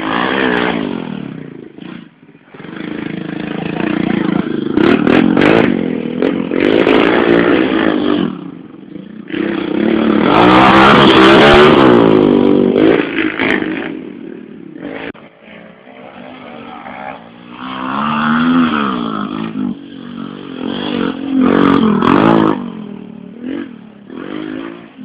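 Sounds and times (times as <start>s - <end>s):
motorcycles racing and revving: 0.0s - 25.0s.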